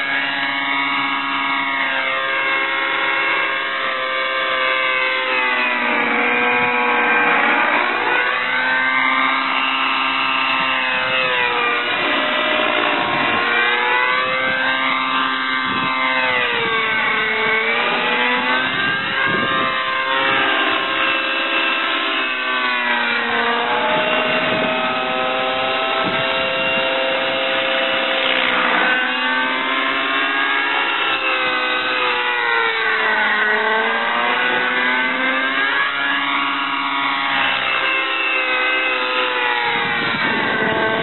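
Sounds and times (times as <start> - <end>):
rc helicopter engine whine: 0.0 - 41.0.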